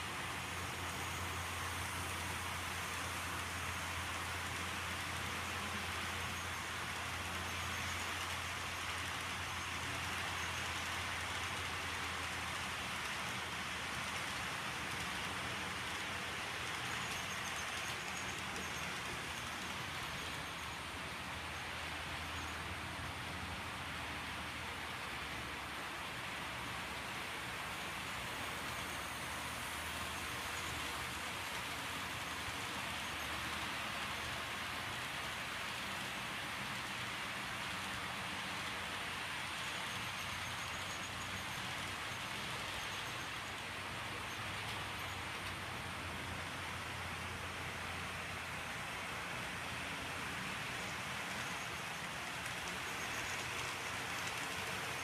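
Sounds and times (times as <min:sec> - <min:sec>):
model train wheels on rails: 0:00.0 - 0:55.0.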